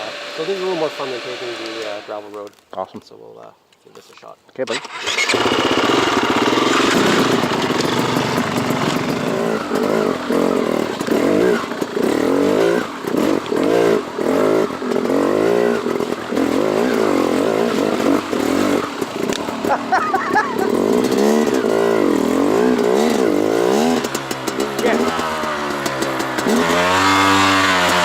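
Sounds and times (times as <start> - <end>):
dirt bike engine revving: 0.0 - 2.4, 4.7 - 28.0.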